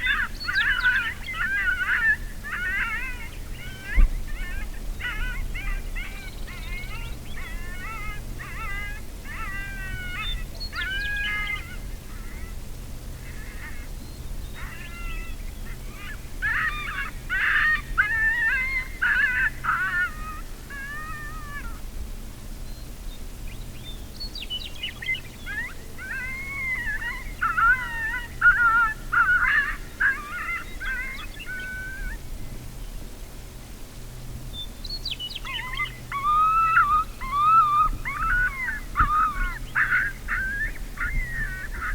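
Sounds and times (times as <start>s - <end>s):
coyotes yipping and howling: 0.0s - 14.0s, 14.6s - 21.8s, 24.8s - 32.6s, 35.0s - 41.9s.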